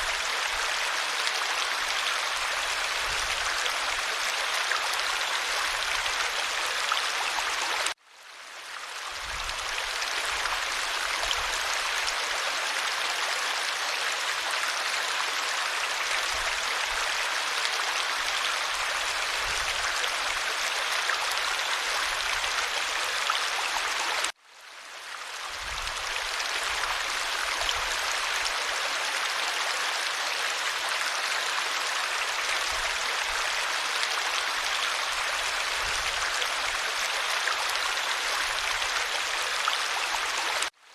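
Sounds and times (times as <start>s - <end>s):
stream flowing: 0.0s - 40.8s.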